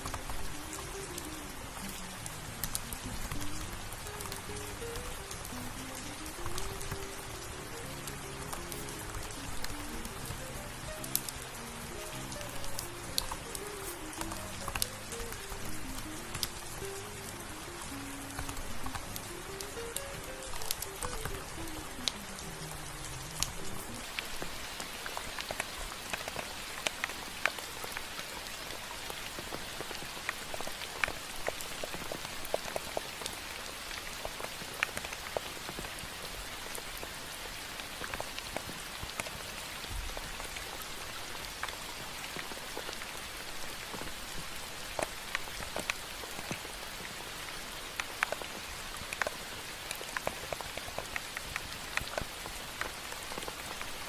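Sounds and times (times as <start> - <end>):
raindrops tapping: 0.0 - 54.0
steady rain hiss: 0.0 - 54.0.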